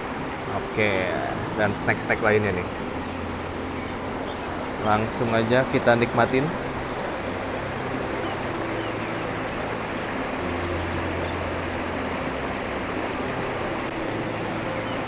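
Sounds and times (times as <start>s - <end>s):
river flowing over boulders: 0.0s - 15.0s.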